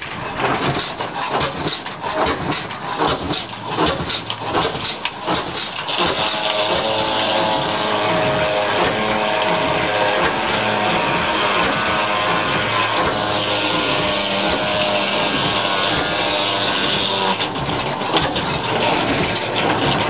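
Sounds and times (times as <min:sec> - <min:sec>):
stationary engine beat: 0:00.0 - 0:20.0
circular saw blade whine: 0:03.6 - 0:20.0.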